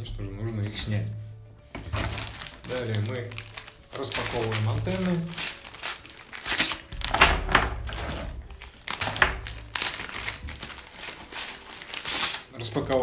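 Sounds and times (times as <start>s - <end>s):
plastic packaging crinkling: 1.8s - 13.0s.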